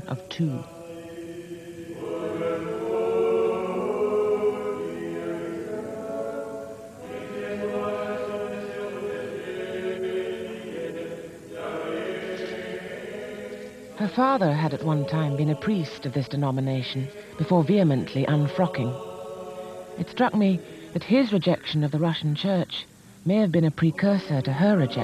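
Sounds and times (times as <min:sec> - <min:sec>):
choir chanting: 0:00.0 - 0:22.2, 0:23.8 - 0:25.0.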